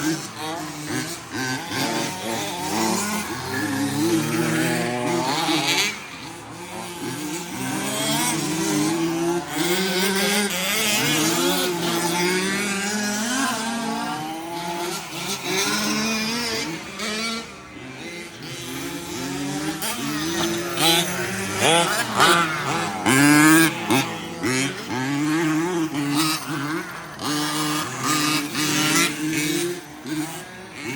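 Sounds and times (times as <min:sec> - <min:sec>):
rc truck motors whining: 0:00.0 - 0:30.9.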